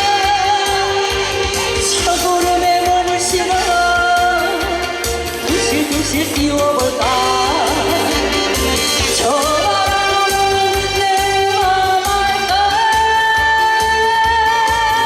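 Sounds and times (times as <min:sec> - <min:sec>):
backing track with steady beat: 0:00.0 - 0:15.0
woman singing: 0:00.0 - 0:15.0.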